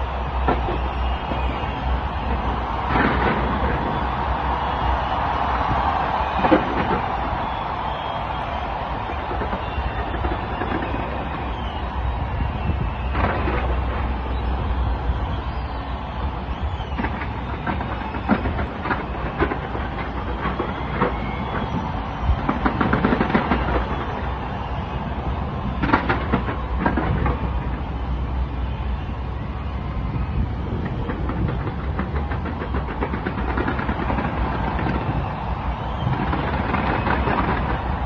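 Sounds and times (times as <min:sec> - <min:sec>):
fireworks bangs and crackles: 0:00.0 - 0:38.0
fireworks rumbling bursts: 0:00.0 - 0:38.0.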